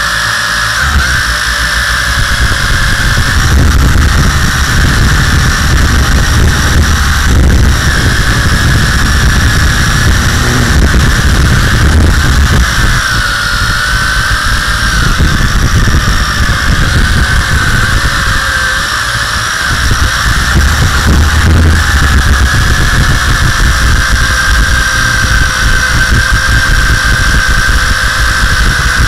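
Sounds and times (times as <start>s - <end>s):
drone motors whining: 0.0s - 29.0s
wind and vibration rumble: 0.0s - 29.0s.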